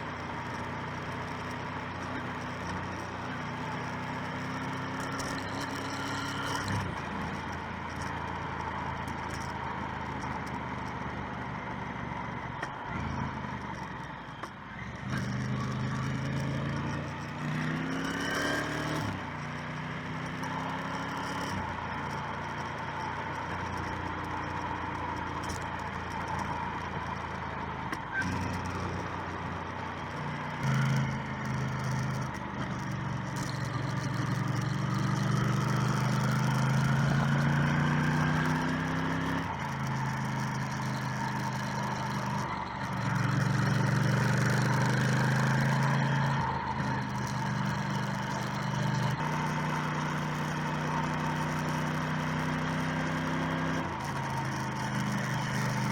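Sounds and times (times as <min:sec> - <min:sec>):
motorcycle engine accelerating: 0:00.0 - 0:55.9
wind and road noise: 0:00.0 - 0:55.9.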